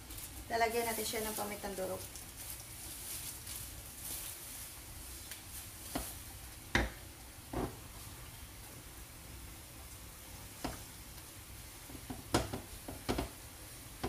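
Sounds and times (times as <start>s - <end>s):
paste sizzling in a wok: 0.0s - 14.0s.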